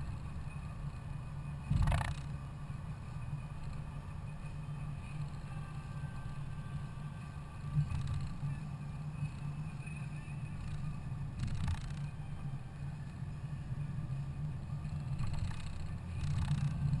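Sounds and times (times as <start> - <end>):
car interior engine and tyre noise: 0.0 - 17.0.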